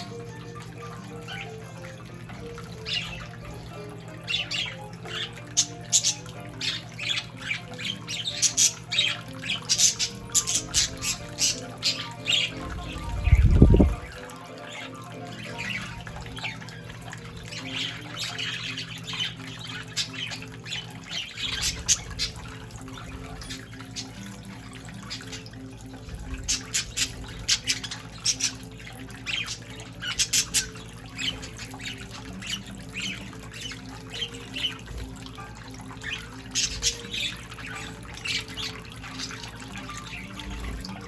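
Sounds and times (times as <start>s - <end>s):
budgerigars chirping and squawking: 0.0s - 41.0s
fountain water running: 0.0s - 41.0s.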